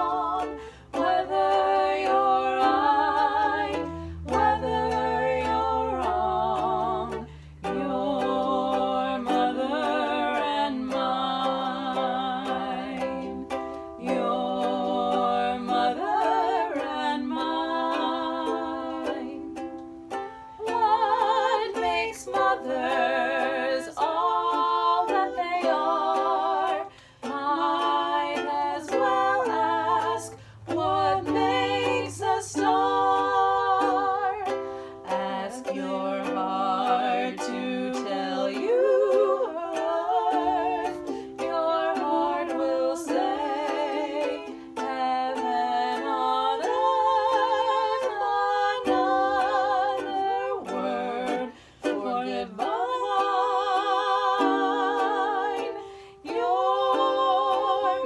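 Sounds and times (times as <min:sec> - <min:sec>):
ukulele: 0:00.0 - 0:58.0
women singing together: 0:00.0 - 0:58.0.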